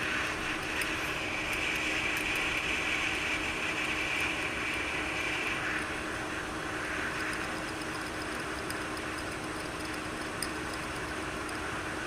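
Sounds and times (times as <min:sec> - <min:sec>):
hot air blower hissing: 0:00.0 - 0:12.0.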